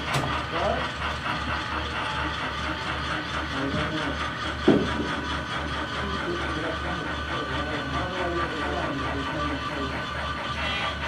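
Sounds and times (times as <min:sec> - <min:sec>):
model train humming: 0:00.0 - 0:11.0.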